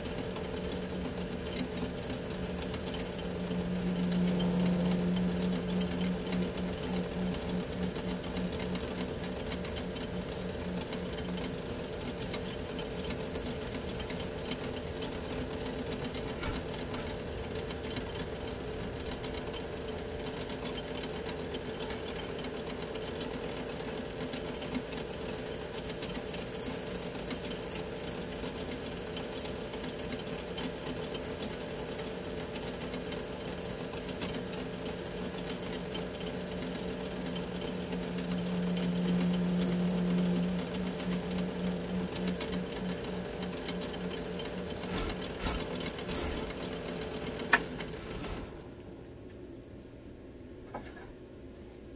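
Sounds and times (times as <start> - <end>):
metal lathe running: 0.0 - 48.7.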